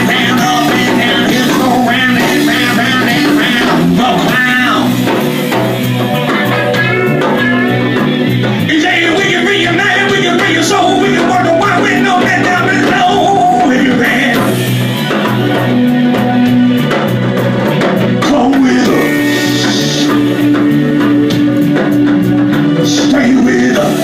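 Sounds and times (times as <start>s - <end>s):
live band playing: 0.0s - 24.0s
person singing: 0.0s - 24.0s.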